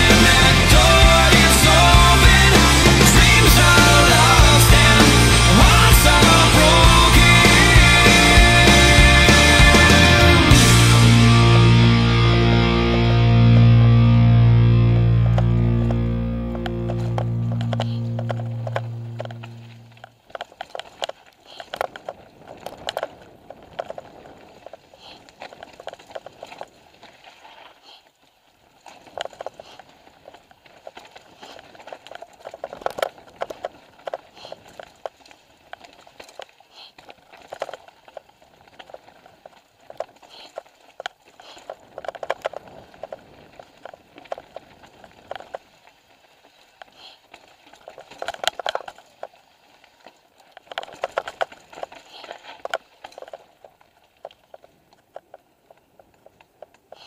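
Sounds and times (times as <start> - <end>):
bike tyres rolling over dirt: 0.0 - 57.0.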